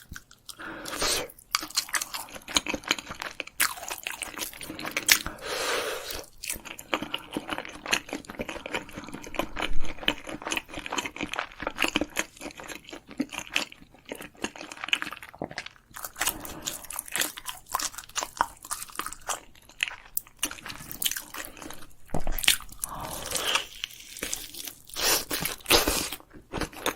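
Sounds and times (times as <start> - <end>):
person chewing and crunching: 0.0 - 26.9.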